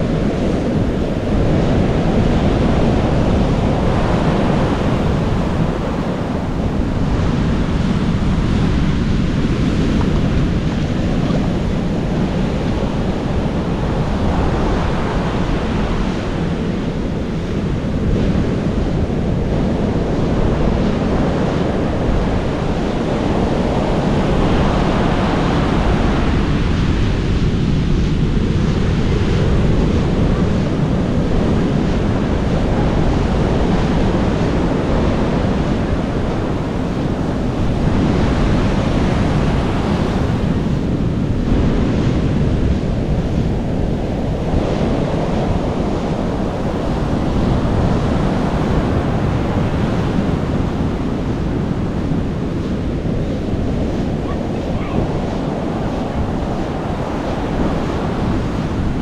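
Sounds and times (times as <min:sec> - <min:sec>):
surf washing on rocky shore: 0:00.0 - 0:59.0
wind rumbling on microphone: 0:00.0 - 0:59.0.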